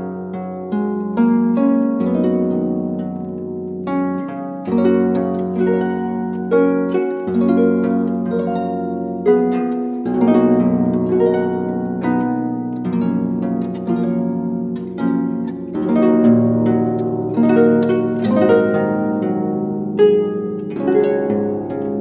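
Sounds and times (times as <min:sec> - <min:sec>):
harp music: 0:00.0 - 0:22.0.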